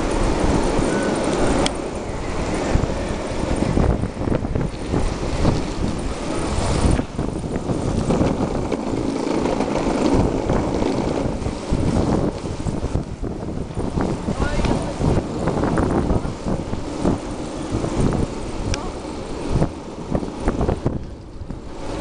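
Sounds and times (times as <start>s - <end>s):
wheels rolling over asphalt: 0.0s - 22.0s
wind buffeting microphone: 0.0s - 22.0s.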